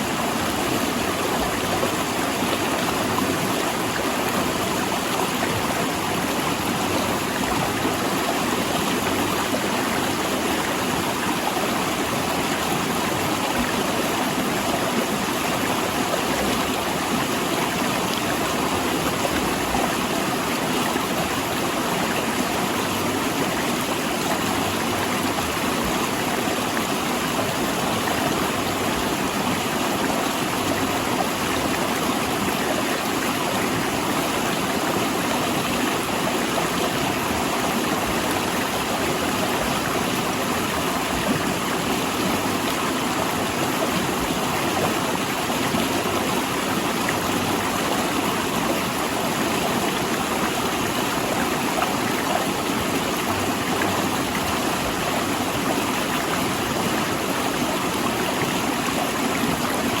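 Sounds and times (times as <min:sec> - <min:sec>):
river rushing over rocks: 0:00.0 - 1:00.0.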